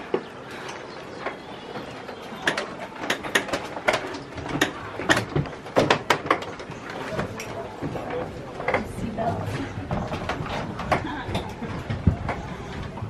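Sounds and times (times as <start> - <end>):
footsteps on metal floor: 0.0 - 13.0.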